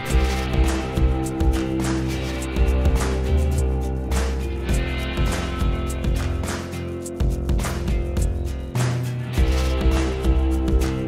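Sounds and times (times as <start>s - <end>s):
strummed guitar music: 0.0s - 11.0s.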